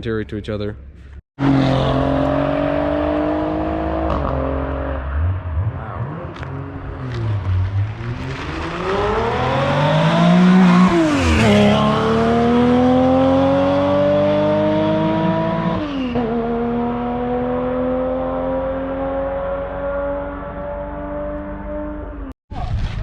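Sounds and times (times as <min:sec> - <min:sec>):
car engine accelerating hard: 0:01.4 - 0:22.3.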